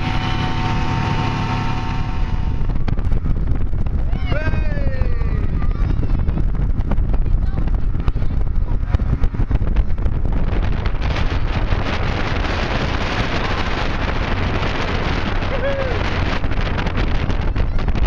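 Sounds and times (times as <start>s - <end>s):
boat motor: 0.0s - 18.0s
water rushing along hull: 0.0s - 18.0s
wind buffeting microphone: 0.0s - 18.0s.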